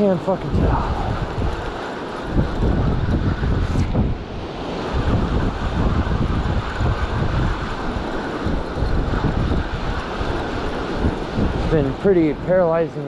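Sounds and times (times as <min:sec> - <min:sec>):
surf rushing on beach: 0:00.0 - 0:13.0
wind buffeting microphone: 0:00.0 - 0:13.0.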